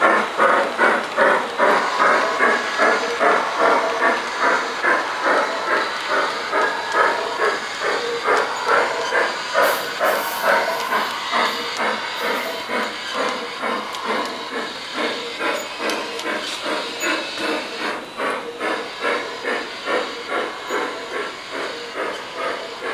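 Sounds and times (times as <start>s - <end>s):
model steam train chuffing: 0.0s - 22.9s
steam hiss: 0.0s - 22.9s.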